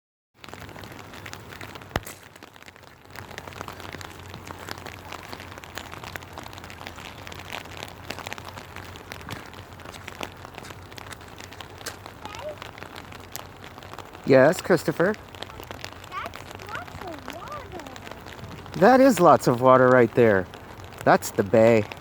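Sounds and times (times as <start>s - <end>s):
rain pattering: 0.4s - 22.0s.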